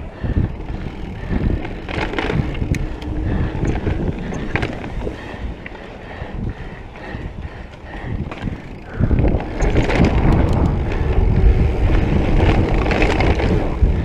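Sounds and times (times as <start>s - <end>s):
bike tyre noise on dirt: 0.0s - 14.0s
wind rumbling on microphone: 0.0s - 14.0s
bike clattering over bumps: 0.1s - 14.0s.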